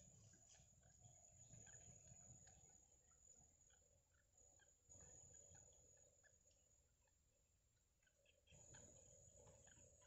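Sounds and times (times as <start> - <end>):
bird chicks peeping: 0.0 - 10.0.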